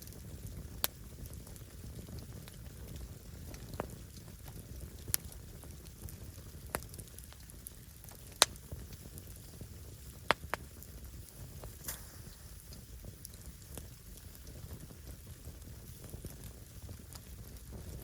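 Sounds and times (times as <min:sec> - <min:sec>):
firewood burning rumble: 0:00.0 - 0:18.0
sharp crackling pops: 0:00.0 - 0:18.0.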